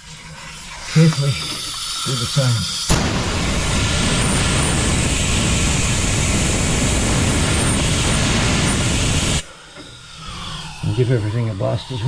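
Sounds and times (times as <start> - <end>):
compressed air blow gun hissing: 0.0 - 10.8.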